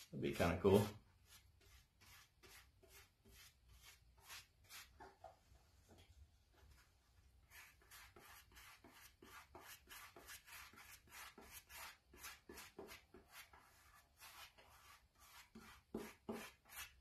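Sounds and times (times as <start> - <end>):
paintbrush dabbing strokes: 0.0 - 17.0.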